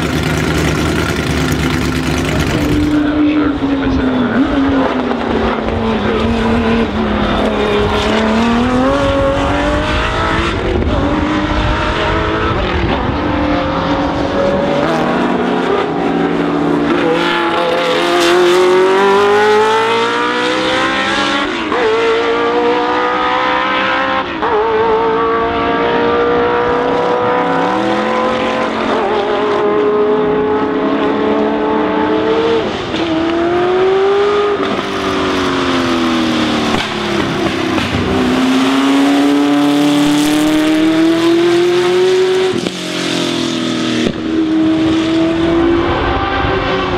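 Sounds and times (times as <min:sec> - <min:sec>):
racing car engine at full throttle: 0:00.0 - 0:46.9.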